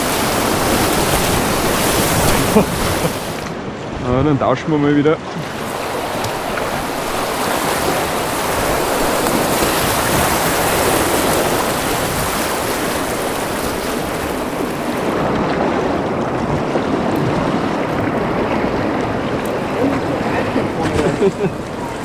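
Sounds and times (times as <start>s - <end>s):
rushing river water: 0.0s - 4.0s, 5.2s - 22.0s.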